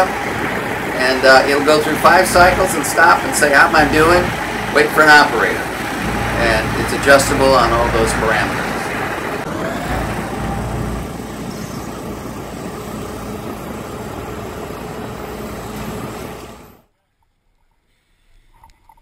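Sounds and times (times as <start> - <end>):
net cleaner machine running: 0.0 - 16.8.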